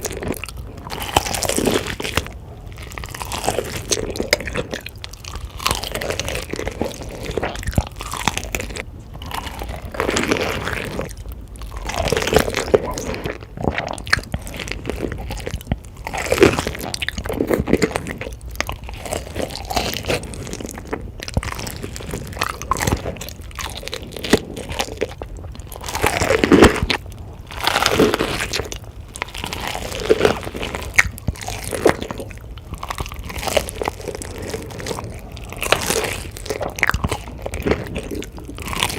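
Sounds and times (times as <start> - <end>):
crunchy bites and chewing: 0.0 - 38.9.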